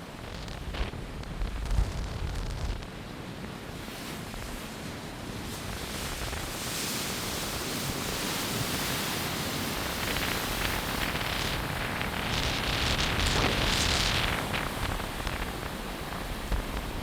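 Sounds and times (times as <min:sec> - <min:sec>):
ocean surf: 0:00.0 - 0:17.0
strong storm wind: 0:00.0 - 0:17.0.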